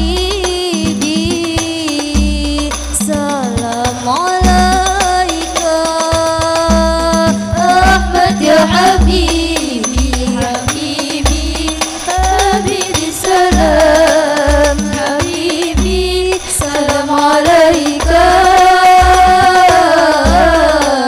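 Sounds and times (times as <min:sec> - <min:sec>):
frame drums beating: 0:00.0 - 0:21.0
women singing into microphones: 0:00.0 - 0:21.0.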